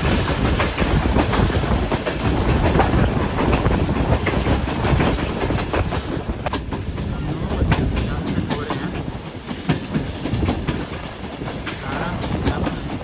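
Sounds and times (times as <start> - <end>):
train rumbling along track: 0.0 - 13.0
wheels clicking over rail joints: 0.0 - 13.0.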